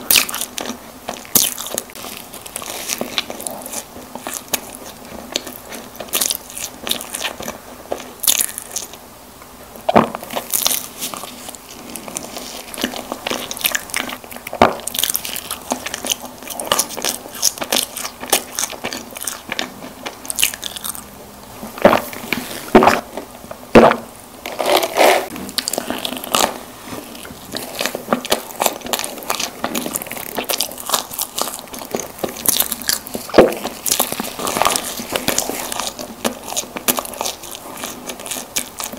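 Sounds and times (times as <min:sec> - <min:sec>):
wet chewing with crunches: 0:00.0 - 0:09.0, 0:09.8 - 0:21.1, 0:24.5 - 0:38.9
close-miked eating snack cakes: 0:00.0 - 0:38.9.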